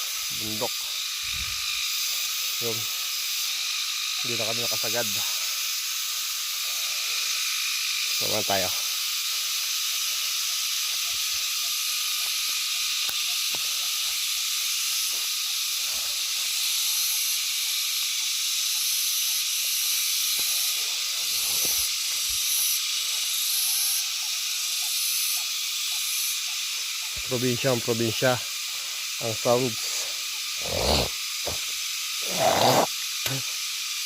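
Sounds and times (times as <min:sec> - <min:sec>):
insects buzzing: 0:00.0 - 0:34.0
pulsing high insect layer: 0:00.0 - 0:34.0.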